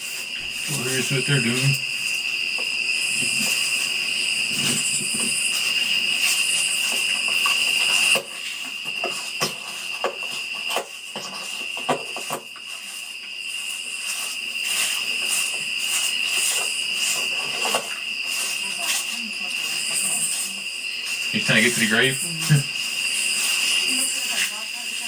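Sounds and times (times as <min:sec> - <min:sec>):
night insects chirring: 0:00.0 - 0:25.0.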